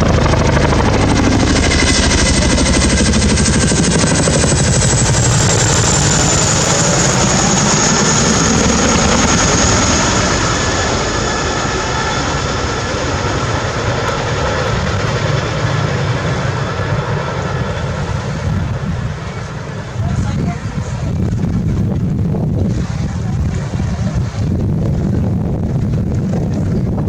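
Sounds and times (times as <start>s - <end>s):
helicopter rotor beat: 0.0s - 27.0s
helicopter turbine whine: 0.0s - 27.0s.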